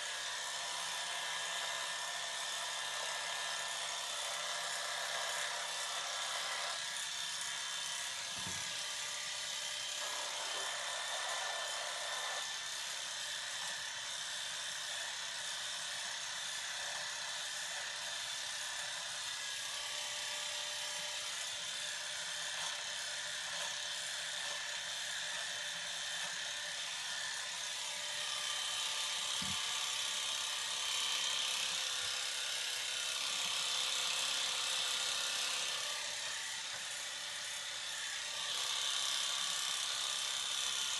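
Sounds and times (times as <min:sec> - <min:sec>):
electric hair clippers buzzing: 0:00.0 - 0:40.9.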